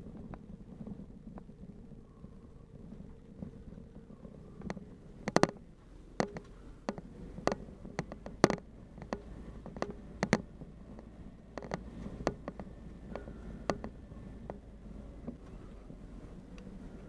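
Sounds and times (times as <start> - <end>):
vehicle knocks and rattles: 0.0 - 16.1
low engine hum: 0.0 - 17.0.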